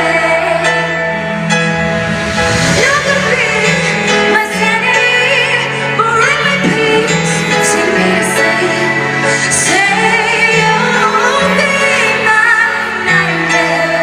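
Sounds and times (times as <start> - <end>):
woman singing: 0.0 - 1.0, 2.8 - 14.0
band playing chords: 0.0 - 14.0.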